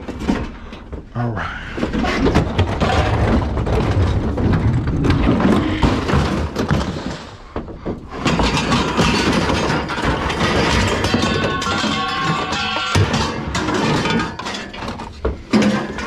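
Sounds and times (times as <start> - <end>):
garbage truck engine rumbling: 0.0 - 16.0
knocks and creaks: 0.0 - 16.0
compactor crunching and cracking debris: 1.8 - 16.0.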